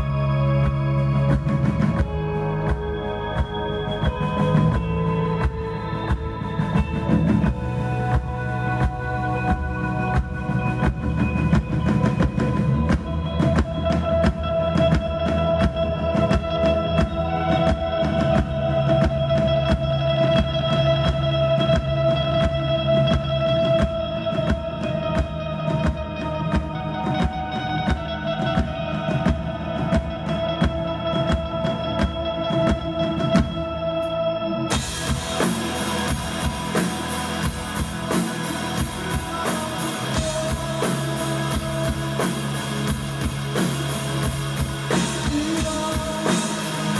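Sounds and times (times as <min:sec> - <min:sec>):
drum kit steady beat: 0:00.0 - 0:34.0, 0:34.7 - 0:46.9
rock band playing: 0:00.0 - 0:46.9.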